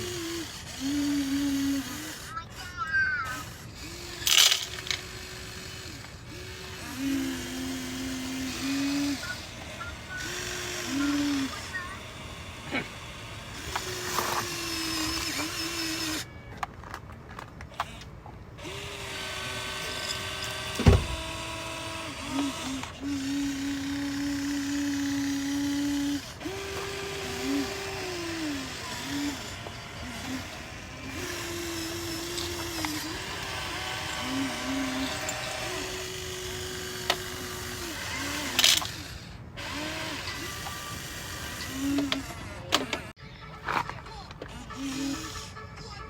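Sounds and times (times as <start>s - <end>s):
electric motors whining: 0.0s - 43.2s, 44.4s - 46.0s.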